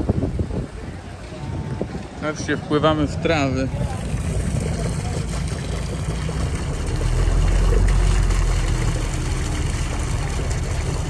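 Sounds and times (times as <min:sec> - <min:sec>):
ferry engine rumbling: 0:00.0 - 0:11.0
water wash: 0:00.0 - 0:11.0.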